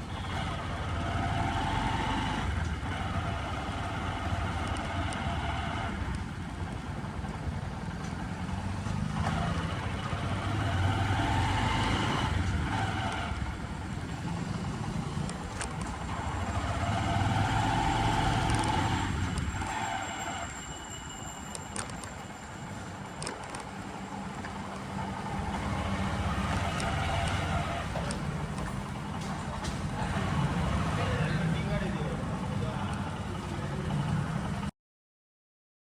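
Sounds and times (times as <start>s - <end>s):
motor vehicle engines: 0.0s - 34.7s
road noise: 0.0s - 34.7s.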